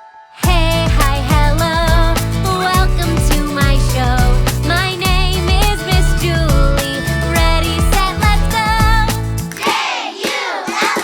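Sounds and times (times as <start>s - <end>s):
upbeat children's song: 0.3s - 11.0s.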